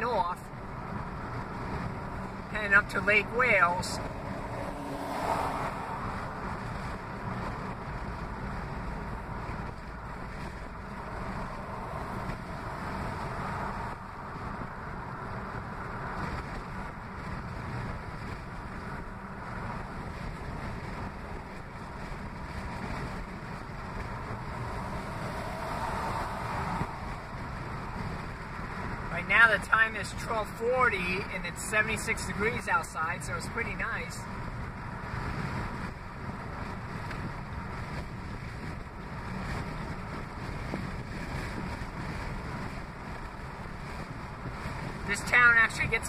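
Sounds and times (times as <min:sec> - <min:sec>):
wind rushing past car: 0:00.0 - 0:46.0.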